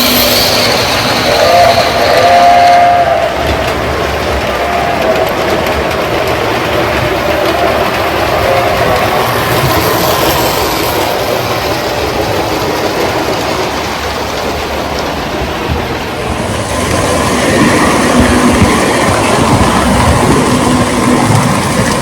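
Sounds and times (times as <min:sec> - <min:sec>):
wheels clattering over rails: 0:00.0 - 0:22.0.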